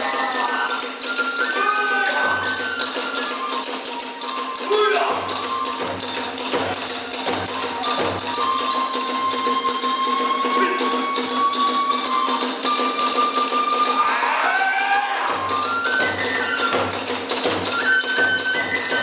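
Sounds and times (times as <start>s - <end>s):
drum beats: 0.0s - 19.0s
bamboo flute long note: 0.4s - 16.9s.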